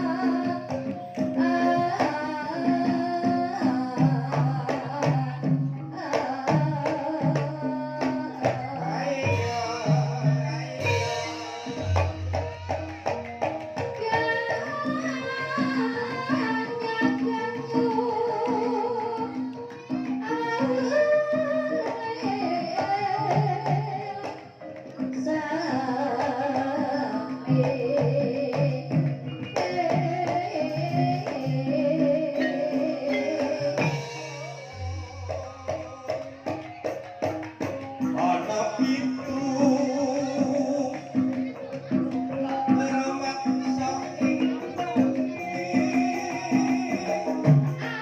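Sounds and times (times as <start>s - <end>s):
hand drum beat: 0.0s - 48.0s
person singing: 0.0s - 48.0s
gamelan struck tones: 5.0s - 48.0s.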